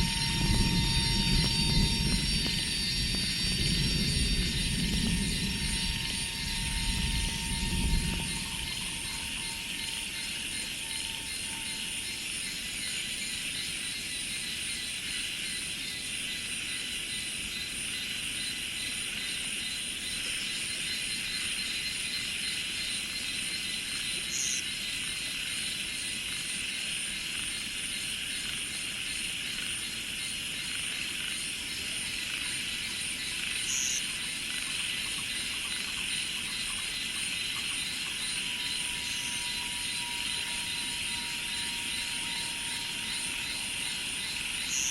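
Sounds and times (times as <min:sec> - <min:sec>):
cicadas and insects droning: 0:00.0 - 0:44.9.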